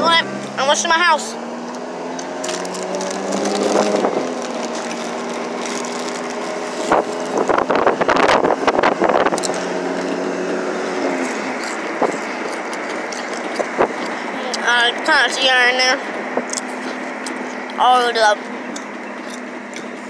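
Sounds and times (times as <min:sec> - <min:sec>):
truck engine hum: 0:00.0 - 0:20.0
wind and road noise: 0:00.0 - 0:20.0.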